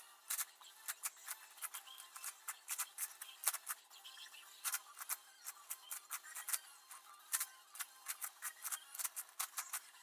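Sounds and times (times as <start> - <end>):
puzzle cube plastic clicks: 0.2 - 3.8, 4.6 - 10.0.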